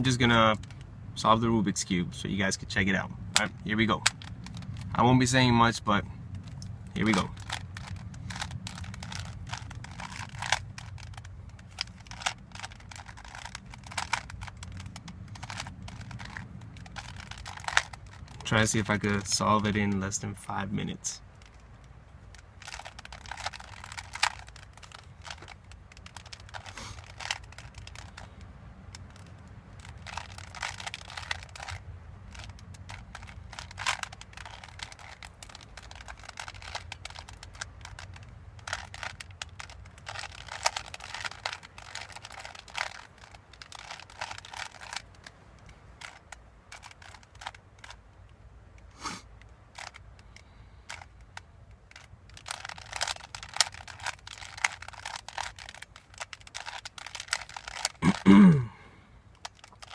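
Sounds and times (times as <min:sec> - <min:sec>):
steady low hum: 0:00.0 - 0:59.9
plastic puzzle cube clicking: 0:00.1 - 0:00.9, 0:03.4 - 0:05.0, 0:06.3 - 0:19.7, 0:21.3 - 0:58.3, 0:59.3 - 0:59.9.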